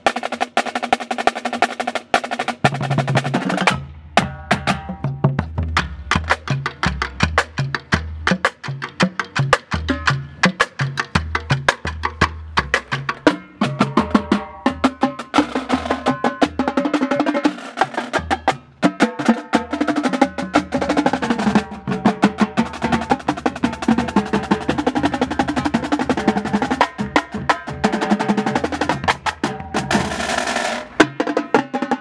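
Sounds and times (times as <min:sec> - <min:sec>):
snare drums: 0:00.0 - 0:32.0
tenor drums: 0:00.0 - 0:32.0.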